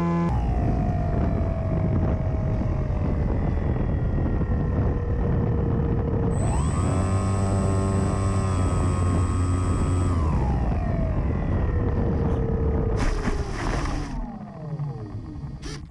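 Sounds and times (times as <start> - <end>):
motor and propeller whining: 0.0 - 15.9.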